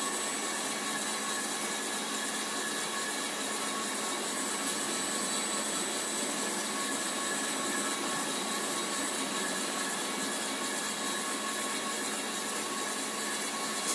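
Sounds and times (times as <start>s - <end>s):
steady whirring machine: 0.0s - 13.9s.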